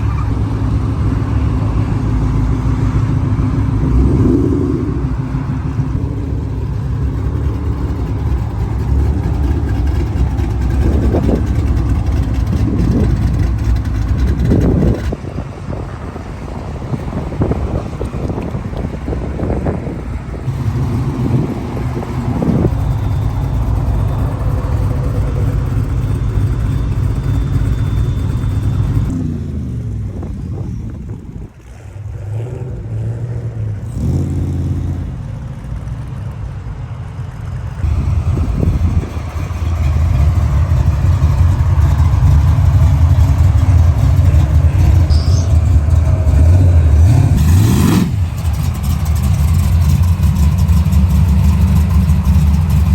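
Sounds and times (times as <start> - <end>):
car engine revving: 0.0 - 52.9
car engines in traffic: 0.0 - 52.9.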